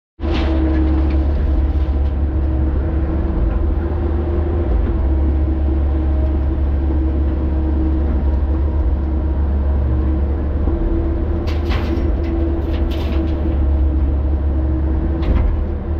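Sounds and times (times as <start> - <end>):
excavator diesel engine rumbling: 0.2 - 15.9.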